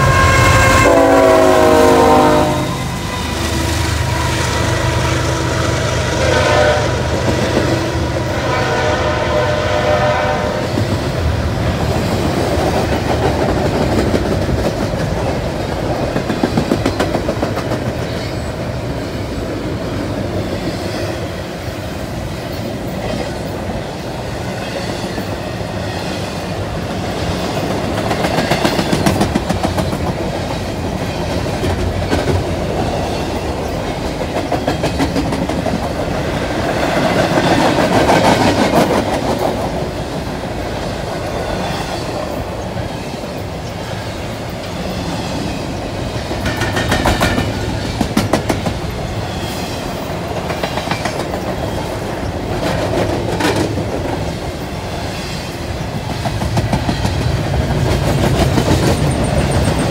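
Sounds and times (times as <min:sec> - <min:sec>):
freight train wheels clattering: 0:10.6 - 0:59.9.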